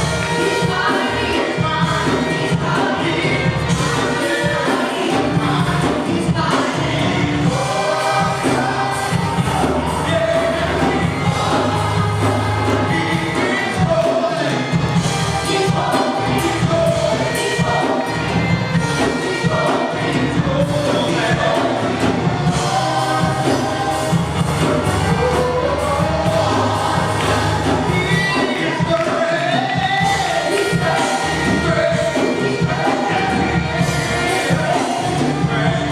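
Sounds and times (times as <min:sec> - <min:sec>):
band bass accompaniment: 0:00.0 - 0:35.9
group singing worship music: 0:00.0 - 0:35.9.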